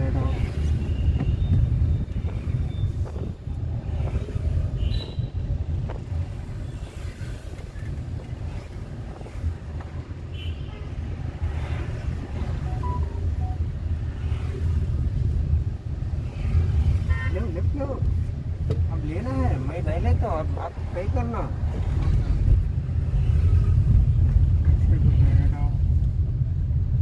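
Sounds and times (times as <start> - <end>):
car engine and tyres rumbling: 0.0 - 27.0.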